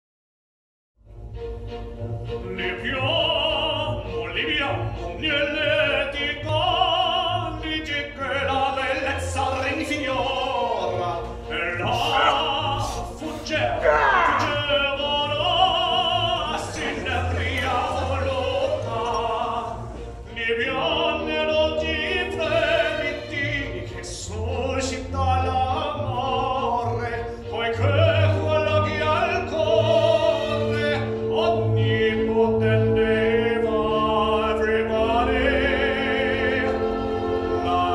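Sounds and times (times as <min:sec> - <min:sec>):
sustained music accompaniment: 0:01.0 - 0:37.9
operatic tenor singing: 0:01.9 - 0:37.9.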